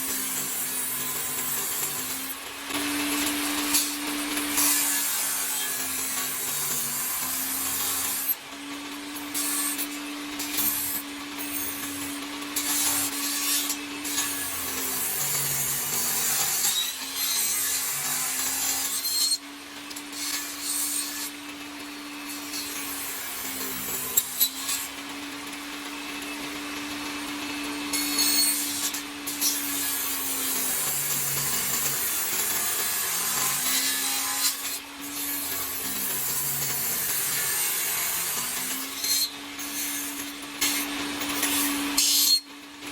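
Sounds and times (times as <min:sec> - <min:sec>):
power tool motor hum: 0:00.0 - 0:42.6
rasping wood cutting: 0:00.0 - 0:42.9.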